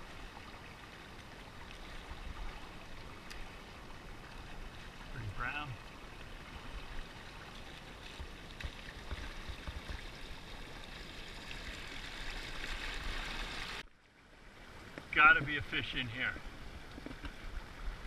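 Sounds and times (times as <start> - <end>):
river water rushing and splashing: 0.0 - 18.0.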